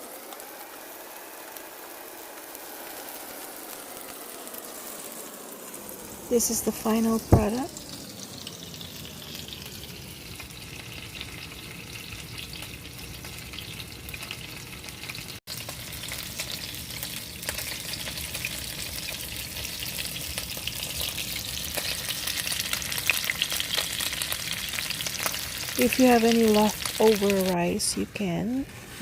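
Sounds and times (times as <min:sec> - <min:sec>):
oil crackling and spattering: 0:00.0 - 0:27.6
pork chops sizzling in oil: 0:00.0 - 0:27.7.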